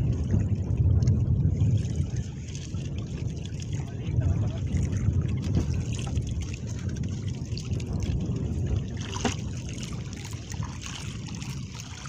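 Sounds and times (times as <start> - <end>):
low steady rumble: 0.0 - 12.0
water lapping around a boat: 0.0 - 12.0.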